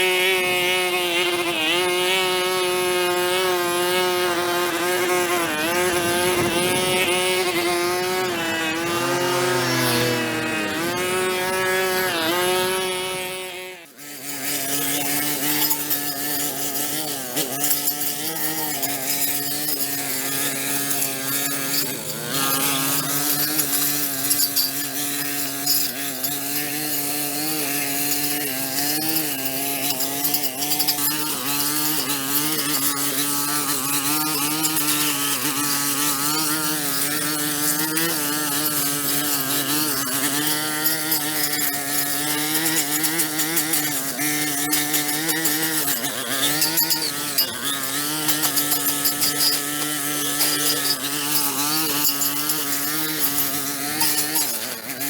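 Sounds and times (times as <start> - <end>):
small two-stroke engine running: 0.0 - 55.0.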